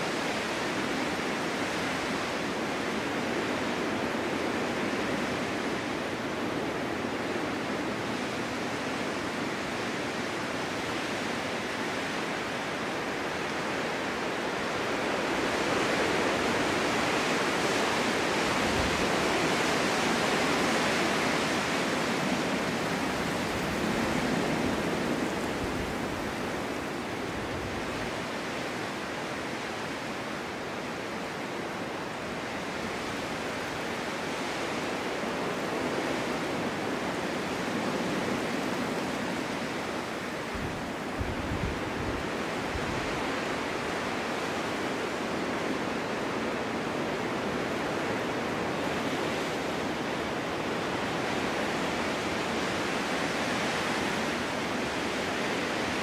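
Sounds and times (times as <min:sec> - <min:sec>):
snowstorm wind blowing: 0:00.0 - 0:56.0.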